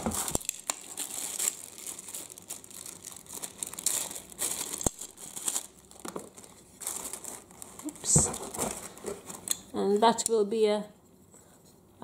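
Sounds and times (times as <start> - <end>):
plastic bags crinkling: 0.0 - 9.7.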